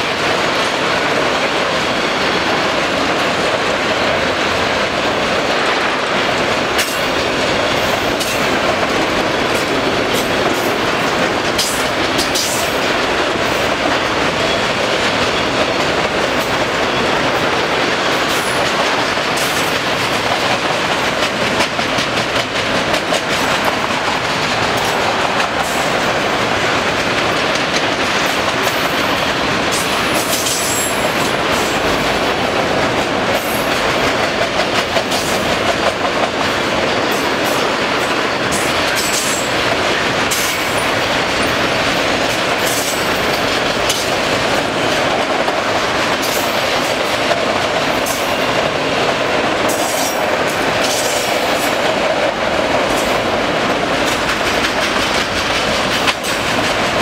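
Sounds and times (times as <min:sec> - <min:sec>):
clickety-clack over rail joints: 0:00.0 - 0:57.0
steel wheels rumbling on rail: 0:00.0 - 0:57.0.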